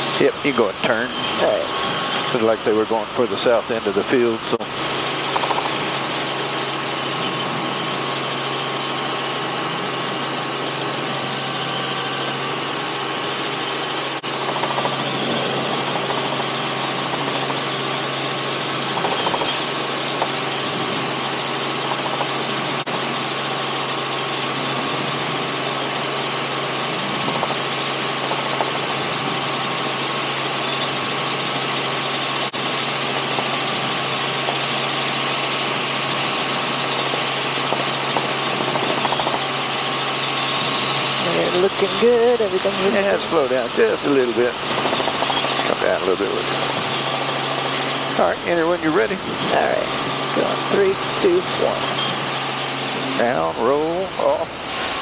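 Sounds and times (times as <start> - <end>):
helicopter engine and rotors drone: 0.0 - 55.0.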